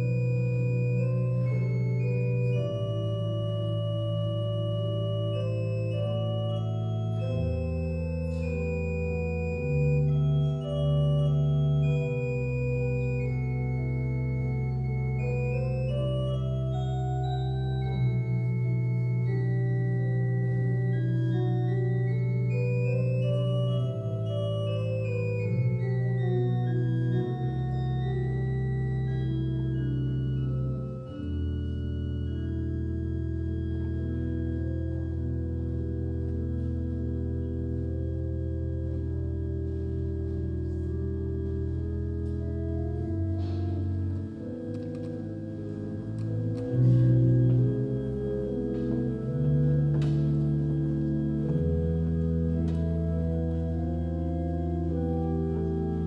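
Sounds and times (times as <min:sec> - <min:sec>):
church organ playing: 0:00.0 - 0:56.0.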